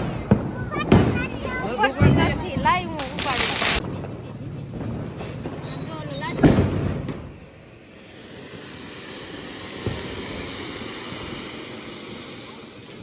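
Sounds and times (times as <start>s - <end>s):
fountain firework hissing: 0.0s - 13.0s.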